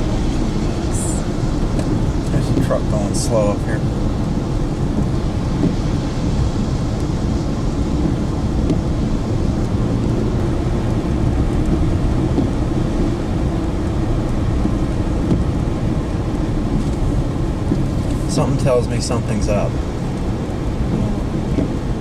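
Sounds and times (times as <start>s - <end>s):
road and engine noise in car: 0.0s - 22.0s.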